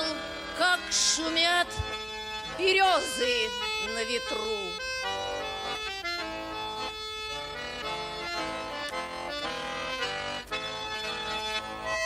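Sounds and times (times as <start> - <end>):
button accordion playing chords: 0.0 - 12.0.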